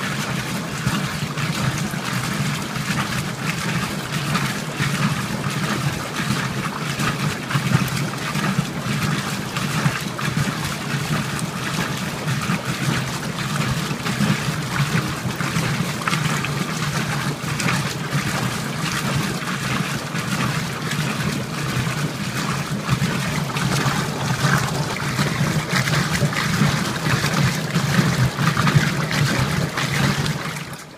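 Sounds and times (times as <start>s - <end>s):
washing machine hum: 0.0s - 30.9s
water and clothes sloshing: 0.0s - 30.9s.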